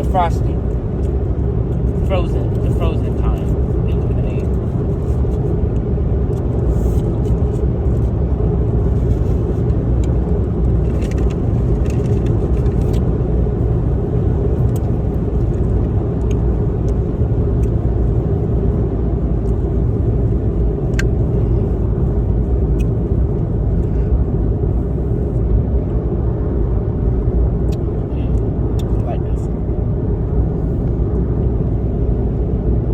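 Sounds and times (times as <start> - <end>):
car engine and road noise: 0.0 - 32.9.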